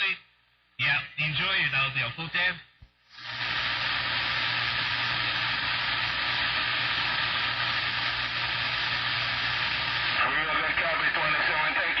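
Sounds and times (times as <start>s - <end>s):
radio static hiss: 0.8s - 12.0s.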